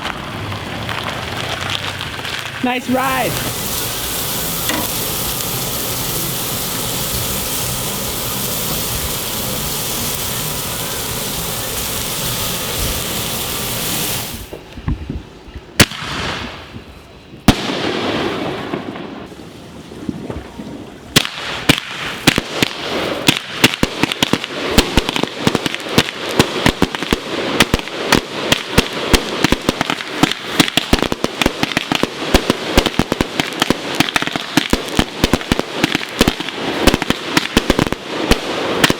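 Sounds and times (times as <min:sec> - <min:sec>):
firecracker pops and cracks: 0:00.0 - 0:14.6, 0:15.8 - 0:16.7, 0:17.4 - 0:19.3, 0:21.1 - 0:38.9
firework bangs: 0:00.0 - 0:14.6, 0:15.8 - 0:16.8, 0:17.4 - 0:19.4, 0:21.1 - 0:38.9
steady hiss: 0:00.1 - 0:14.9, 0:21.5 - 0:38.9.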